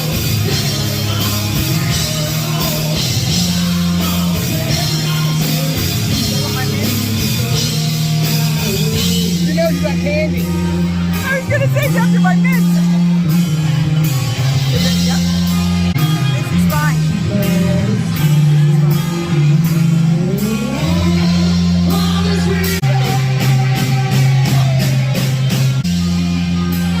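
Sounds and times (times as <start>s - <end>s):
rock music: 0.0s - 27.0s.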